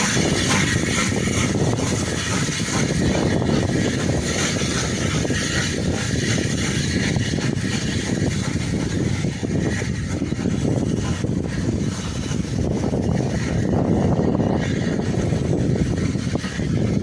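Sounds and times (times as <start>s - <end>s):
passenger train rolling past: 0.0s - 17.0s.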